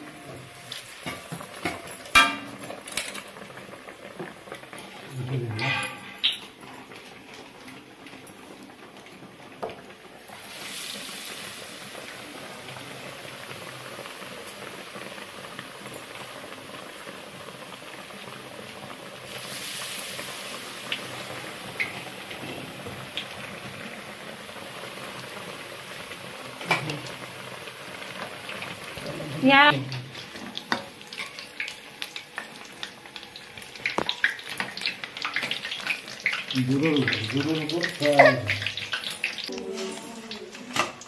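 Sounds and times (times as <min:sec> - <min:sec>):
bread deep-frying in oil: 0:00.0 - 0:41.0.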